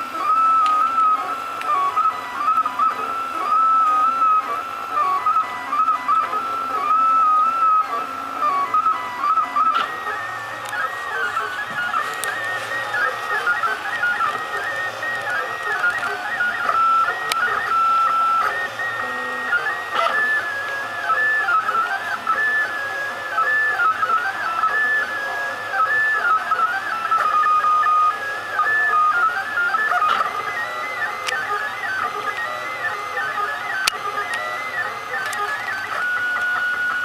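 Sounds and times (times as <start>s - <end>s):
stepper motors whining: 0.0s - 37.0s.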